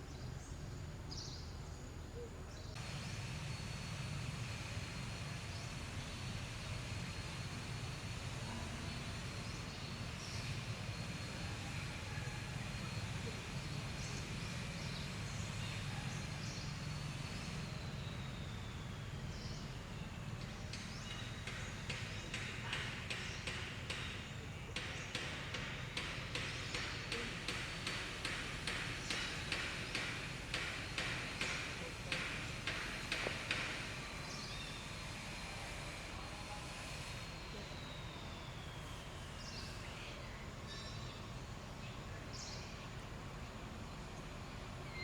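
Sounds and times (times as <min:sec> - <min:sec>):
rhythmic pulsing high buzz: 0:02.8 - 0:41.7.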